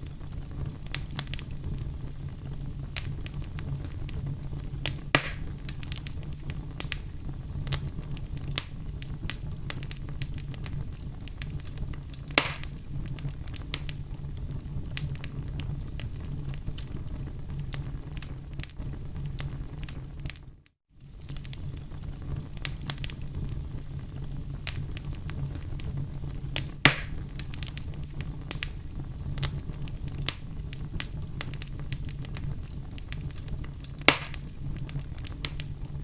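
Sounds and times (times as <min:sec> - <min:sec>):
loud fire pops: 0:00.0 - 0:20.4, 0:21.0 - 0:36.0
fire crackling in a fireplace: 0:00.0 - 0:36.0.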